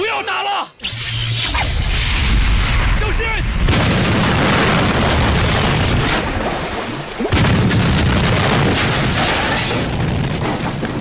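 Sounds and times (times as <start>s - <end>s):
explosion with deep rumble: 1.8s - 11.0s.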